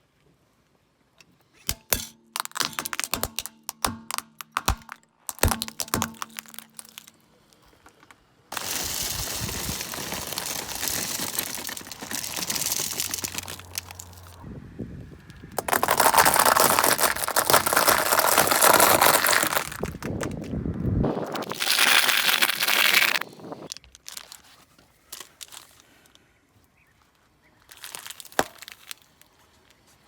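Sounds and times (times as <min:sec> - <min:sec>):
plastic masks cracking: 0:01.5 - 0:14.4, 0:15.3 - 0:26.2, 0:27.7 - 0:29.3.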